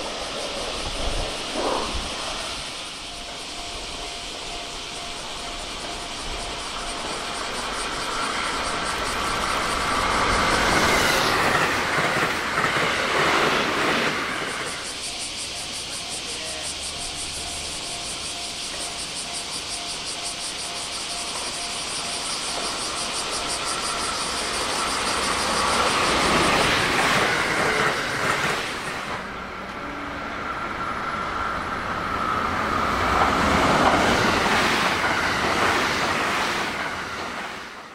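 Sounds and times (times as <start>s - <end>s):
train rushing past: 0.0s - 37.9s.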